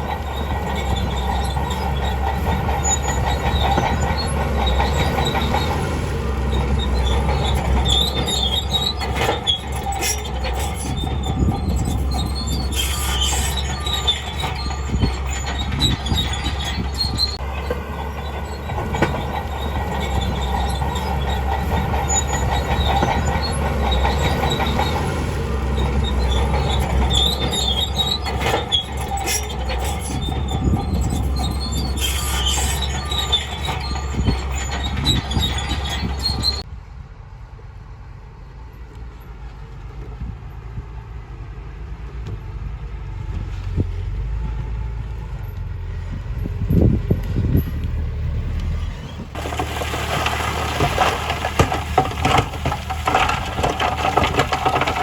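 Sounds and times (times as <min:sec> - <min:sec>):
steel tracks squealing and clanking: 0:00.0 - 0:36.7, 0:43.4 - 0:55.0
diesel engine drone: 0:00.0 - 0:55.0.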